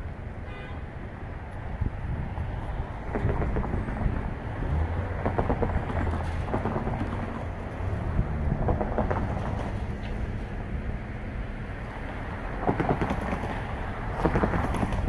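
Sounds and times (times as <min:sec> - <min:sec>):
diesel locomotives rumbling: 0:00.0 - 0:15.0
wind buffeting microphone: 0:01.4 - 0:15.0.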